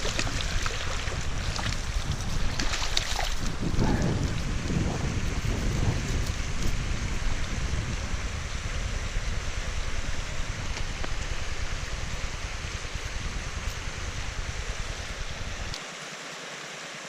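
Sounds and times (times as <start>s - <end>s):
wind buffeting microphone: 0.0s - 15.8s
stream water rushing: 0.0s - 17.0s.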